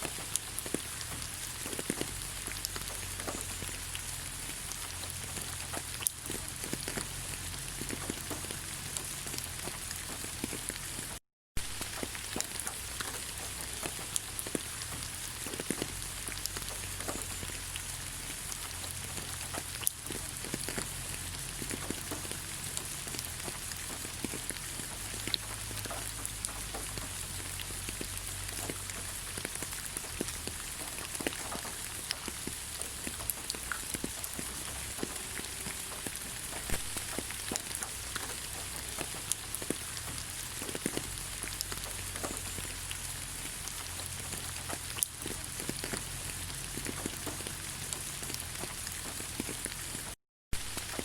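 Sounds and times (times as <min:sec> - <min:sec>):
rain pattering on leaves: 0:00.0 - 0:51.0.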